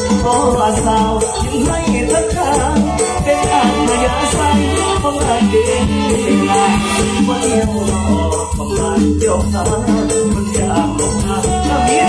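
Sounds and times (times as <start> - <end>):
amplified live band music: 0.0 - 12.0
heavy bass line: 0.0 - 12.0.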